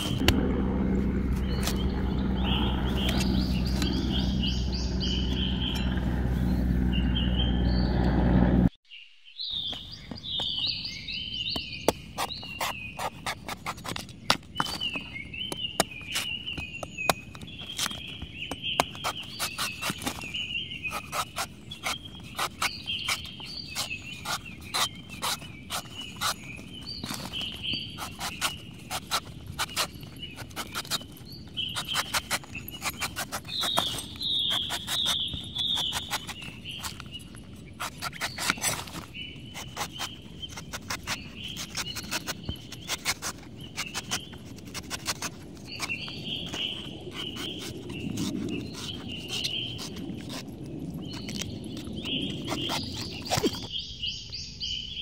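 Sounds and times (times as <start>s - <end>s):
cleaver cutting coconut husk: 0.0s - 7.4s, 11.5s - 53.8s.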